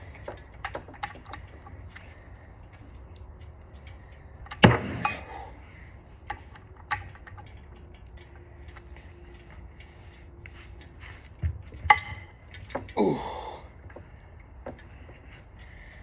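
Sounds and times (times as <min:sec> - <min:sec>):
metal tools clanking: 0:00.0 - 0:10.9, 0:11.6 - 0:16.0.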